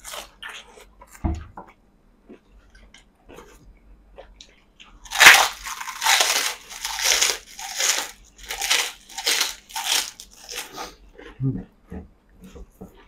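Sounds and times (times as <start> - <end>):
crunchy food being chewed: 0.0 - 1.5, 2.2 - 11.4.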